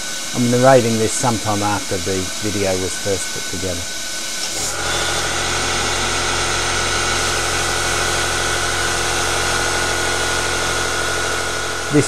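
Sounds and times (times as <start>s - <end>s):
coolant mist hiss: 0.0s - 12.0s
lathe motor whine: 0.0s - 12.0s.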